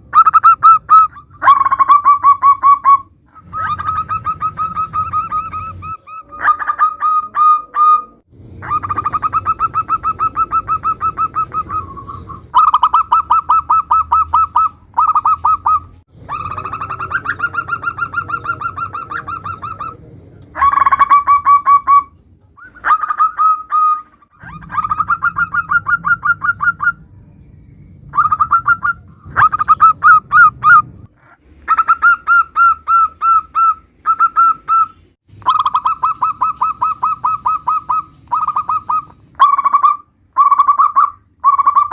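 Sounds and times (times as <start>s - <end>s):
doves cooing in staccato notes: 0.1s - 27.0s, 28.1s - 41.9s.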